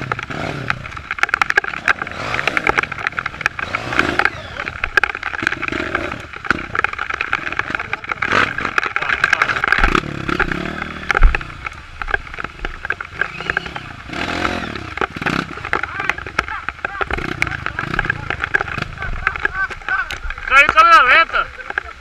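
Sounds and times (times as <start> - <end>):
dirt bike engine revving: 0.0 - 19.9
chassis rattles and knocks: 0.0 - 21.0.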